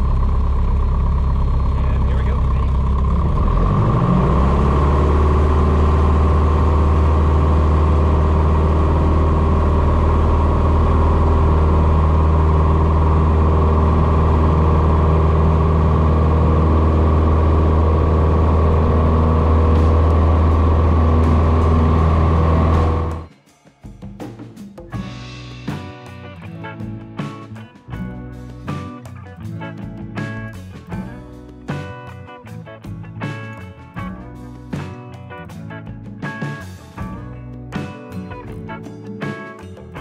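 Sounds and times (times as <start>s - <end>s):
propeller airplane engine drone: 0.0s - 23.3s, 25.0s - 40.0s.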